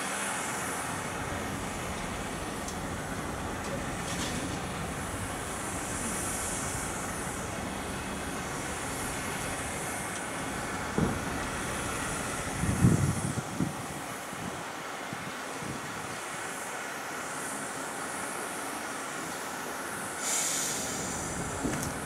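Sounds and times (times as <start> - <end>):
steam locomotive rumble and hiss: 0.0 - 22.0.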